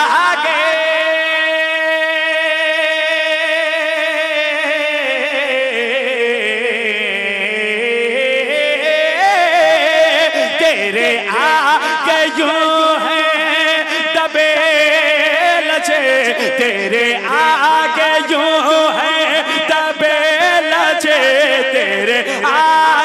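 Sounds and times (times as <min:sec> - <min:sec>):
man singing melismatic phrases: 0:00.0 - 0:23.0.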